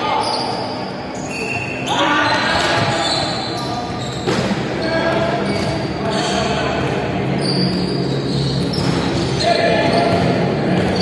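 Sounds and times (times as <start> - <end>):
din of players' voices: 0.0 - 11.0.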